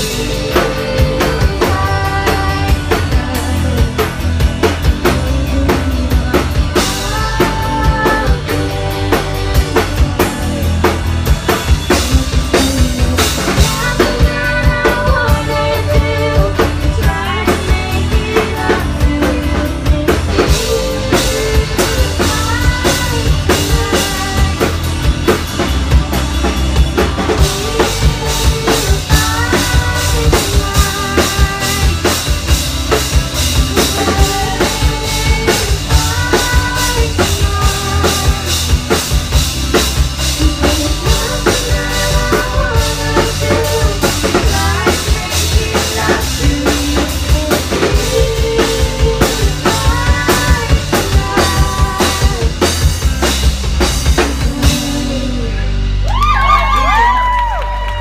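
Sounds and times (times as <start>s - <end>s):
woman singing: 0.0s - 11.0s, 11.6s - 24.9s, 27.0s - 32.6s, 33.4s - 39.2s, 40.2s - 53.1s, 54.0s - 55.7s
driving drum beat: 0.0s - 58.0s
rock band playing: 0.0s - 58.0s.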